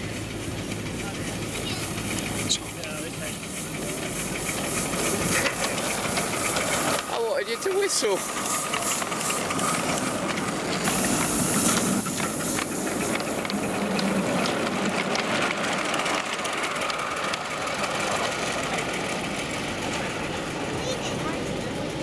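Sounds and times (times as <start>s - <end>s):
miniature steam train passing: 0.0s - 22.0s
steam hissing: 0.0s - 22.0s
wheels clicking over track: 0.0s - 22.0s.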